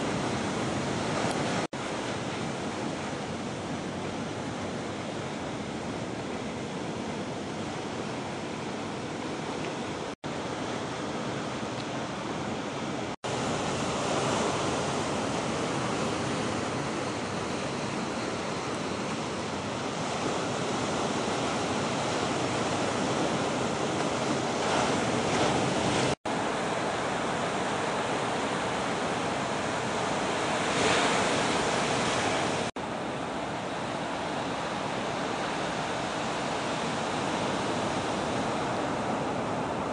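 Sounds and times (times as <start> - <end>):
ocean surf breaking: 0.0 - 11.7, 12.8 - 39.9.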